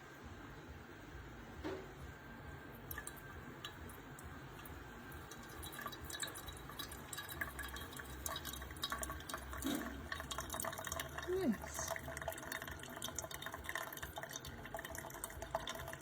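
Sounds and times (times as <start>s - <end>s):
coffee trickling into a cup: 2.5s - 16.0s.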